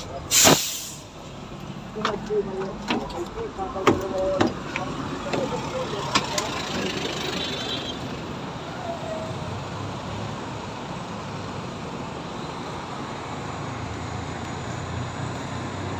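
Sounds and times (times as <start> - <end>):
bus diesel engine running: 0.0 - 15.9
road noise from passing vehicles: 0.0 - 15.9.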